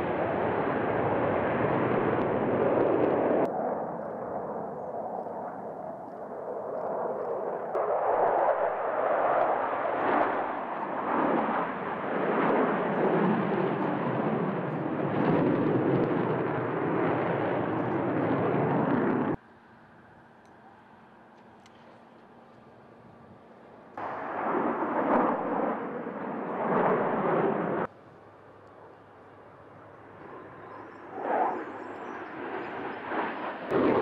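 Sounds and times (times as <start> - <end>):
fighter jets passing overhead: 0.0 - 34.0.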